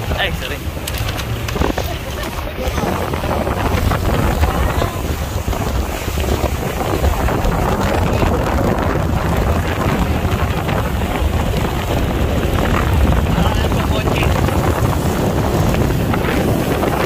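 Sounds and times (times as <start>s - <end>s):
rushing water: 0.0s - 17.0s
speedboat engine running: 0.0s - 17.0s
wind buffeting microphone: 0.0s - 17.0s.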